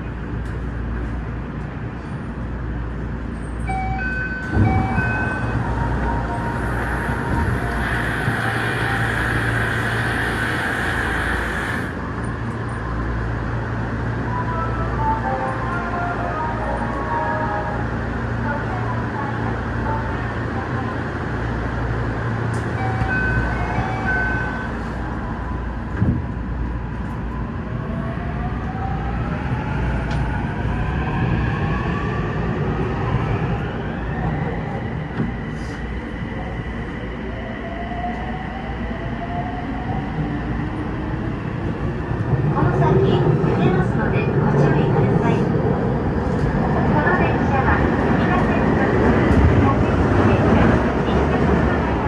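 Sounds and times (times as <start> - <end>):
train low rumble: 0.0 - 52.0.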